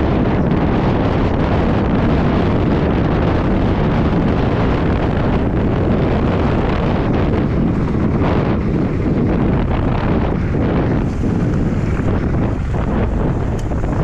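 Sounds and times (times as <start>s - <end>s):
wind rush on microphone: 0.0s - 14.0s.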